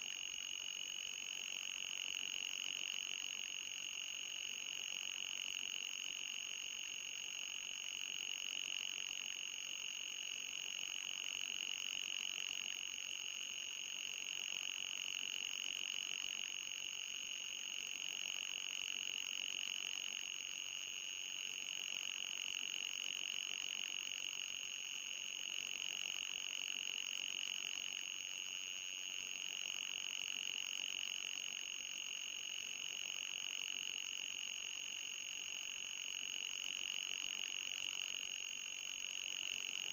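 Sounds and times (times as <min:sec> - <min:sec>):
faint high steady whine: 0:00.0 - 0:39.9.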